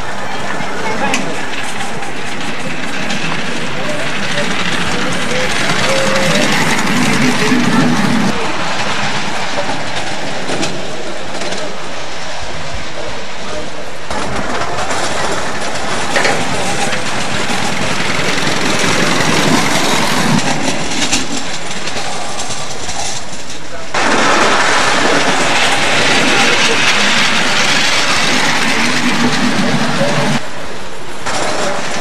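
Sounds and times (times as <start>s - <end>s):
train wheels clattering over rails: 0.0s - 30.6s, 31.2s - 32.0s.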